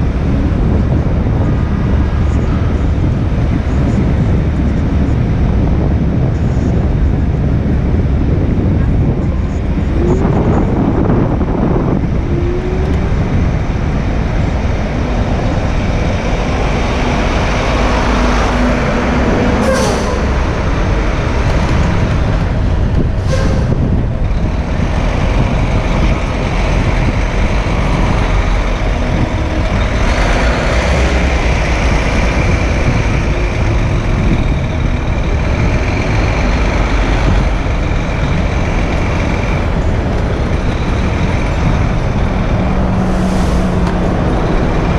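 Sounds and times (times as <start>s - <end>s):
street traffic rumble: 0.0s - 44.9s.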